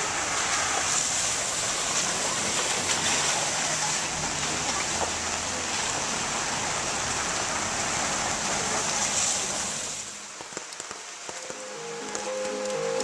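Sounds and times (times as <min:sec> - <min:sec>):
rain and running water hissing: 0:00.0 - 0:13.0.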